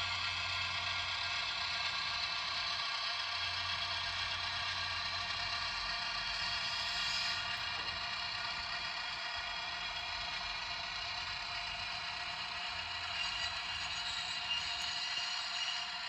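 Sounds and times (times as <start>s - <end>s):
model train humming and whining: 0.0s - 16.0s.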